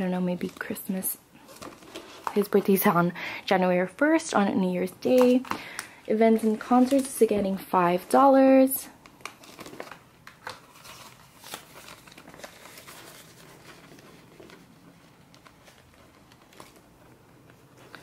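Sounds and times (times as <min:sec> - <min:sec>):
plastic envelope crinkling: 0:00.0 - 0:02.9, 0:05.0 - 0:07.6, 0:08.2 - 0:18.0.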